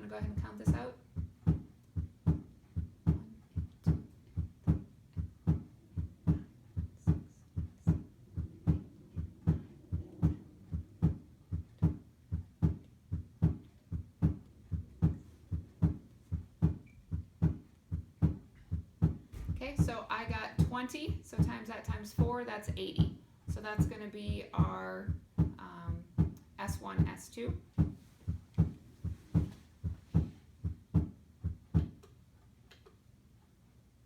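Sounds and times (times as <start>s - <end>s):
heartbeat lub-dub: 0.0s - 32.0s.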